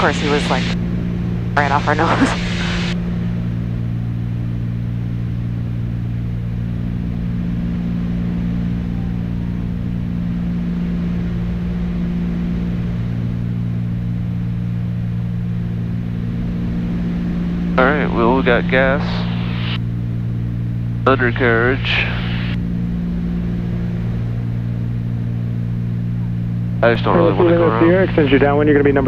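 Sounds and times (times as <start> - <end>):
propeller plane engines droning: 0.0 - 29.0.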